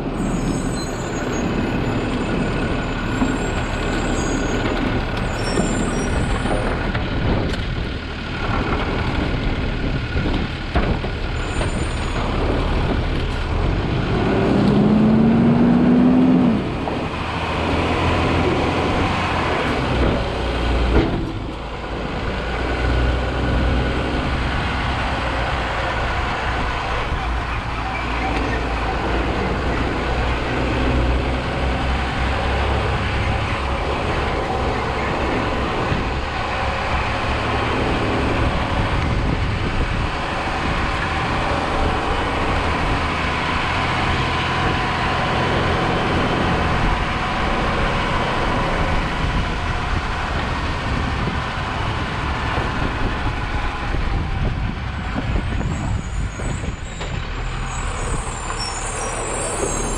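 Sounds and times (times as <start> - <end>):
garbage truck engine running: 0.0 - 59.9
road noise: 0.0 - 59.9.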